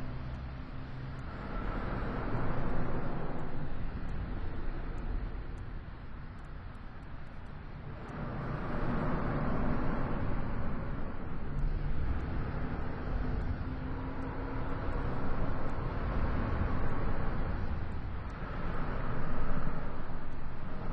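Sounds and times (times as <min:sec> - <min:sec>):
propeller aircraft engines roaring: 0:00.0 - 0:20.9.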